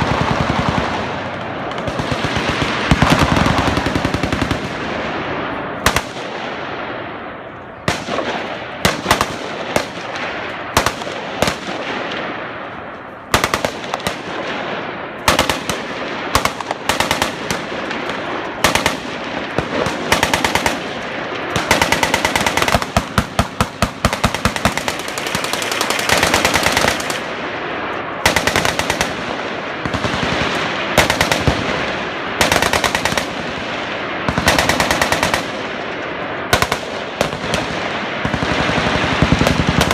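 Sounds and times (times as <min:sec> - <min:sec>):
machine guns firing bursts: 0:00.0 - 0:05.1, 0:07.9 - 0:12.2, 0:13.1 - 0:27.5, 0:28.2 - 0:39.9.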